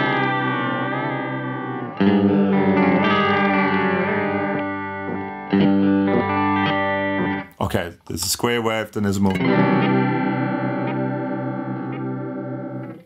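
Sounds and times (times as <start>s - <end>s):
wavering electric guitar chords: 0.0s - 7.5s, 9.3s - 13.0s.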